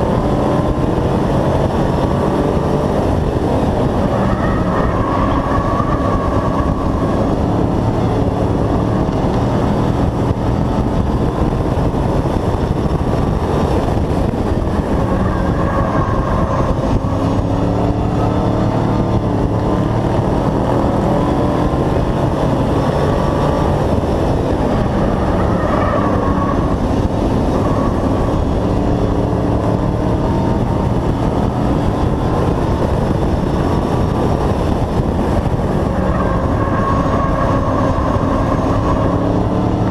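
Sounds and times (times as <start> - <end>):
race truck engine: 0.0 - 39.9.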